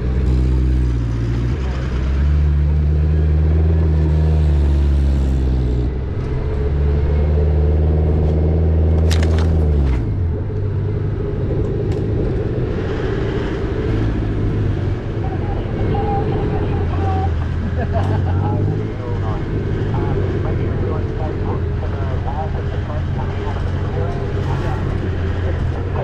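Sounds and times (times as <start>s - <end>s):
off-road engine running: 0.0s - 26.0s.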